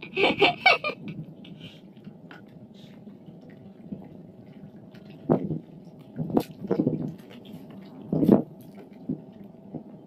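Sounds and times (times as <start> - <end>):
water dripping and trickling: 1.9 - 10.0.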